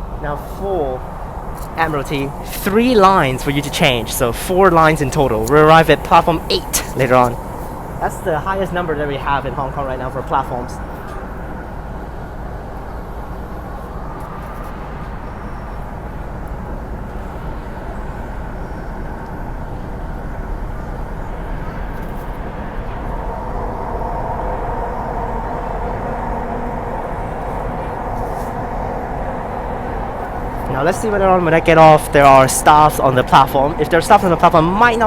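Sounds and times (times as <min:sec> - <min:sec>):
steady whine: 0:00.0 - 0:35.0
train wheels on rail rumbling: 0:00.0 - 0:35.0.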